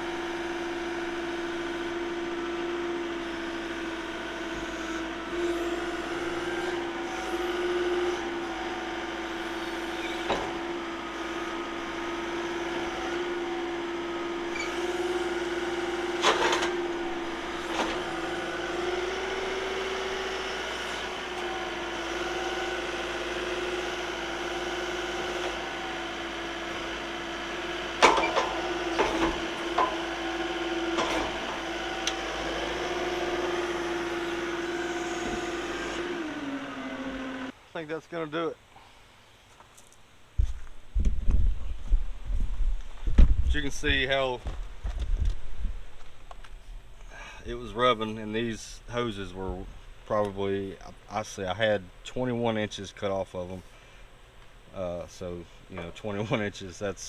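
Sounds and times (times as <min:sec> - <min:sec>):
diesel engine running: 0:00.0 - 0:37.6, 0:41.6 - 0:57.0.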